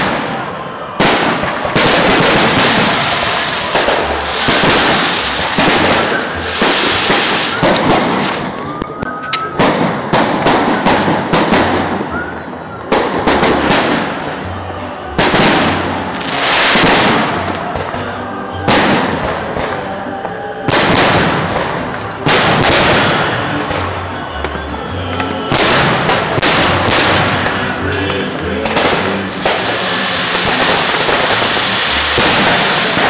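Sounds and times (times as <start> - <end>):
fireworks bangs: 0.0 - 33.0
fireworks popping: 0.0 - 33.0.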